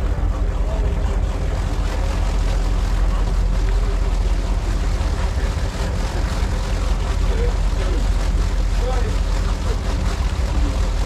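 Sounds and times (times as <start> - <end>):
boat engines idling: 0.0 - 11.0.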